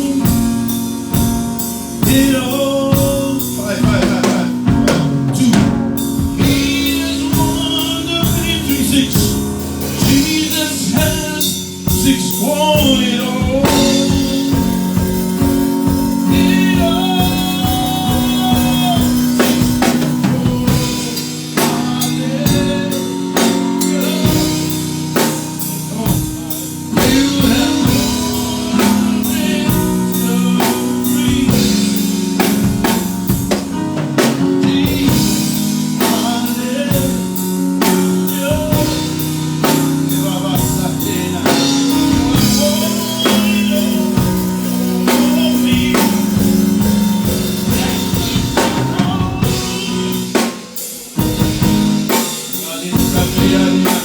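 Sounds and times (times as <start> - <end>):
drum kit beat: 0.0 - 54.0
live band playing: 0.0 - 54.0.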